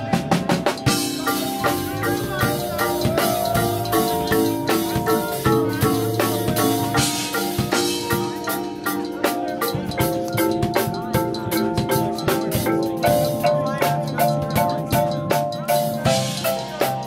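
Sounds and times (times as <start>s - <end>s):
marimbas playing rhythmic passage: 0.0s - 17.0s.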